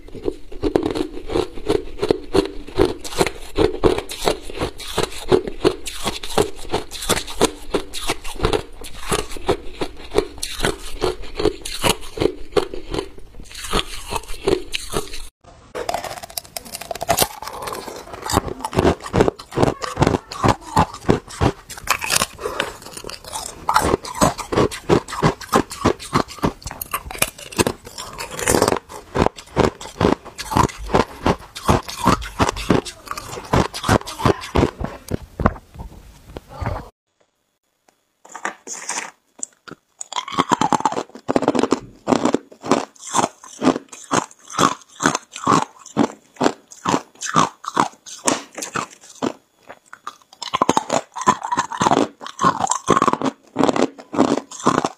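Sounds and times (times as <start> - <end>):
ice crunched between teeth: 0.1 - 34.7, 38.3 - 54.9.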